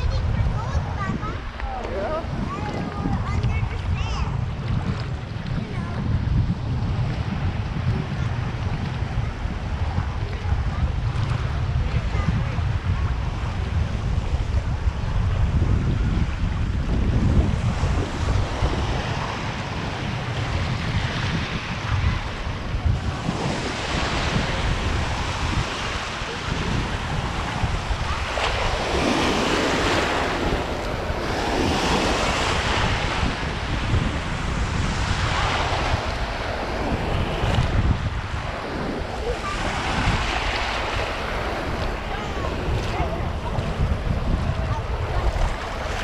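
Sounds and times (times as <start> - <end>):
sea water washing: 0.0 - 46.0
wind buffeting microphone: 0.0 - 46.0.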